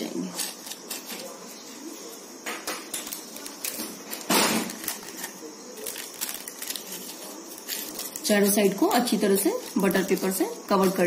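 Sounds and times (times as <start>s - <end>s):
paper rustling and crinkling: 0.2s - 11.0s.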